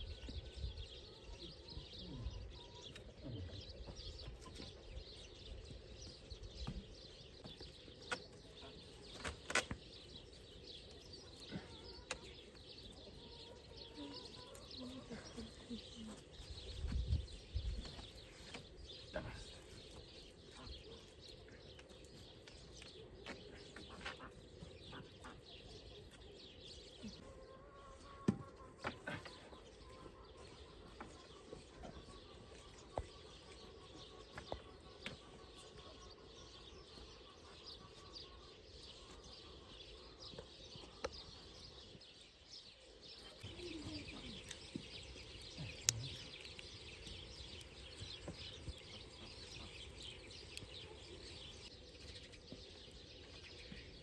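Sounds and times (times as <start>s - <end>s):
birds chirping faintly: 0.0s - 54.0s.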